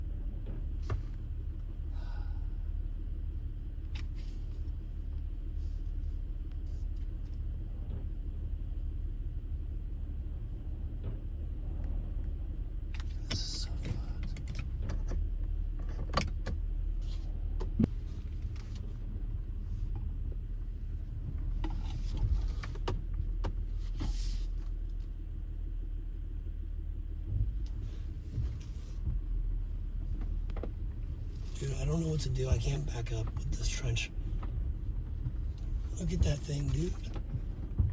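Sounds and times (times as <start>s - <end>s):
car driving on dirt road: 0.0s - 37.9s.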